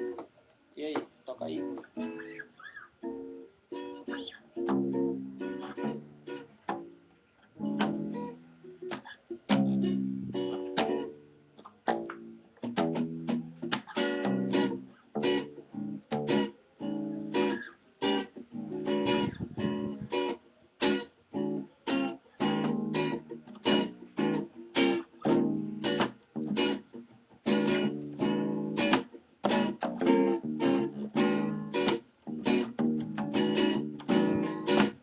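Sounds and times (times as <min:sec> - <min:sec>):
acoustic bass guitar line: 0:00.0 - 0:00.3, 0:01.6 - 0:35.0
acoustic guitar chords: 0:01.5 - 0:35.0.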